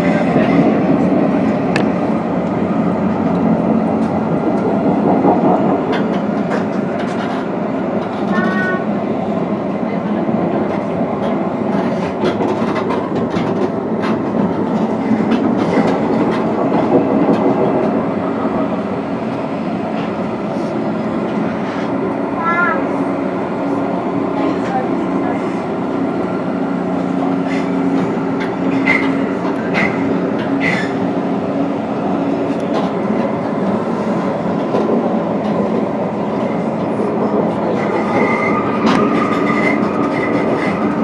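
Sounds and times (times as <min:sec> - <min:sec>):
tram wheels rumbling: 0:00.0 - 0:41.0.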